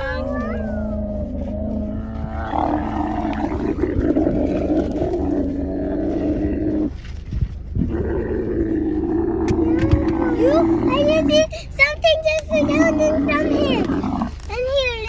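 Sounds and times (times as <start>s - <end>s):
camel bellowing: 0.0s - 7.2s, 7.8s - 11.4s, 12.4s - 14.5s.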